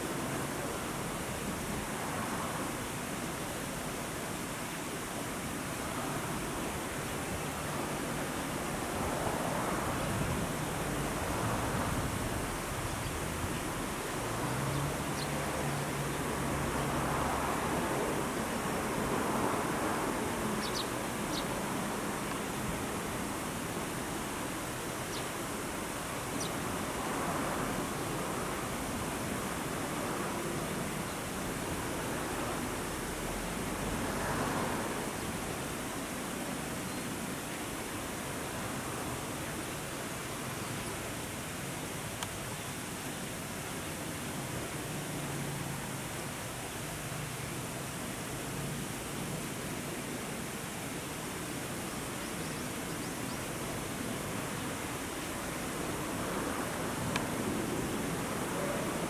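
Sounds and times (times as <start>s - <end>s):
outdoor background rush: 0.0s - 59.0s.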